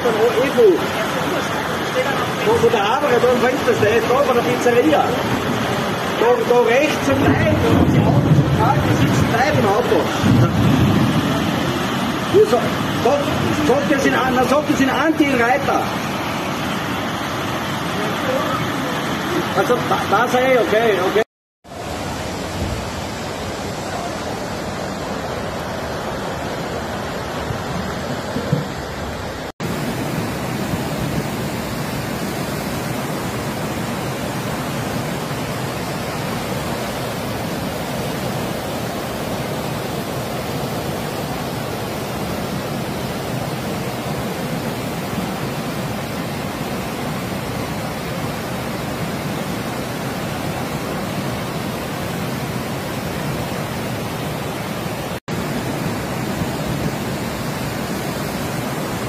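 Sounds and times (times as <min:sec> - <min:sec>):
floodwater rushing: 0:00.0 - 0:59.0.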